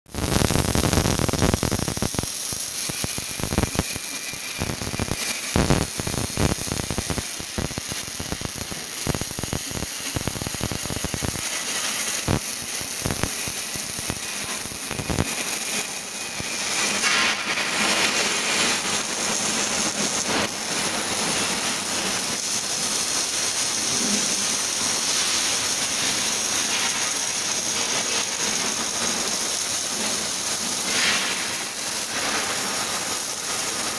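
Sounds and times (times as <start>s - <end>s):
steady welding hiss: 0.1s - 33.9s
welding arcs crackling: 0.1s - 33.9s.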